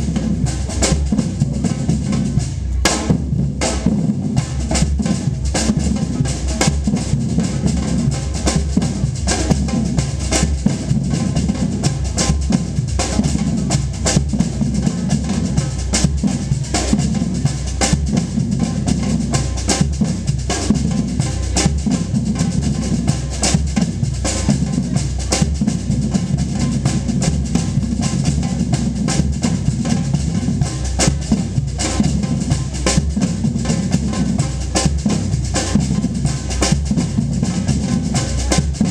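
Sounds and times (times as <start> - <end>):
samba percussion ensemble: 0.0 - 38.9.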